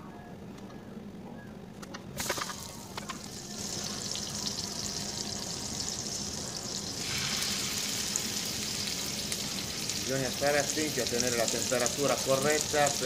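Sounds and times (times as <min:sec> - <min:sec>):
butter sizzling in a frying pan: 0:02.2 - 0:13.0.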